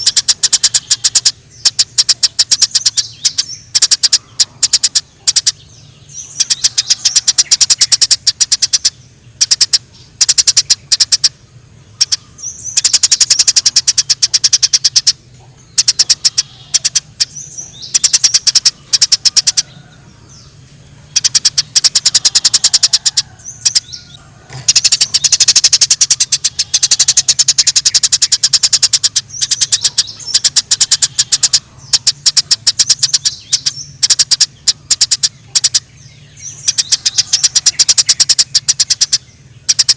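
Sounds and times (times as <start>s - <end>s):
faint low hum: 0.0s - 39.9s
sparrows chirping rapidly: 0.0s - 39.9s.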